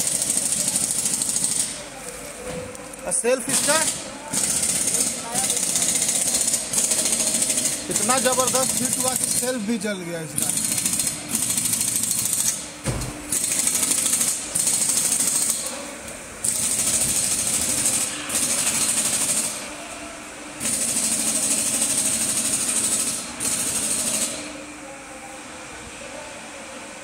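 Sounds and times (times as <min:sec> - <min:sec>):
pneumatic tool rattling with air hiss: 0:00.0 - 0:01.9, 0:03.2 - 0:15.8, 0:16.4 - 0:19.7, 0:20.6 - 0:24.6.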